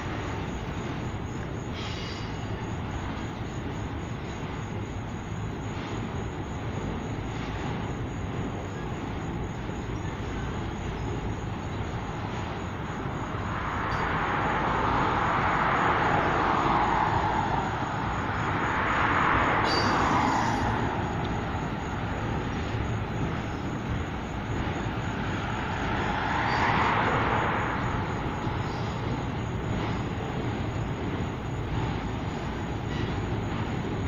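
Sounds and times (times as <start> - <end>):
freight train rumbling past: 0.0 - 34.0
road traffic passing: 0.0 - 34.0.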